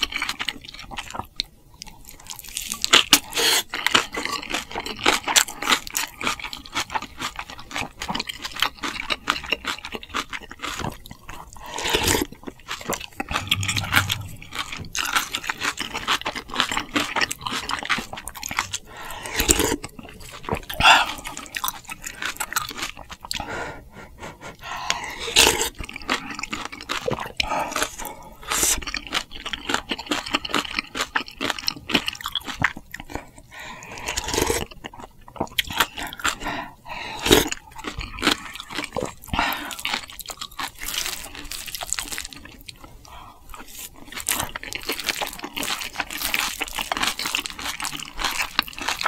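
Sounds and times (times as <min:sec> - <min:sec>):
person chewing and crunching: 0:00.0 - 0:23.5, 0:24.5 - 0:49.0.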